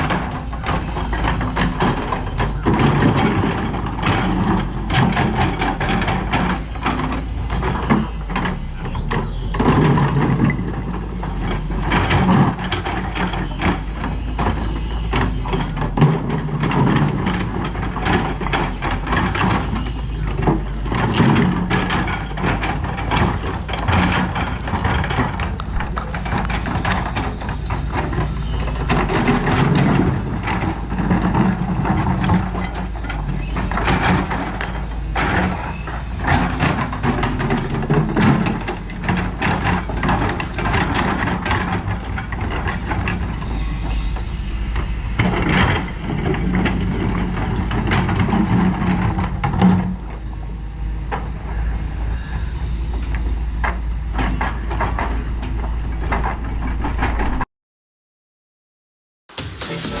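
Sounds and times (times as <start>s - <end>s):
excavator diesel engine running: 0.0s - 57.4s
clanks and knocks: 0.0s - 57.5s.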